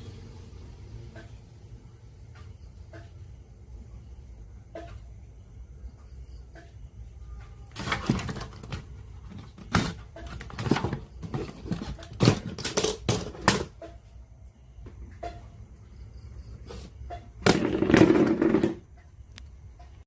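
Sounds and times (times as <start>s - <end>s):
quiet hum: 0.0s - 20.0s.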